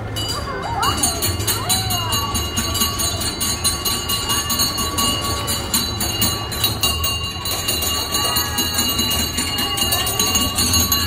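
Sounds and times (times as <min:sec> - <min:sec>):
ride machinery rumbling: 0:00.0 - 0:11.0.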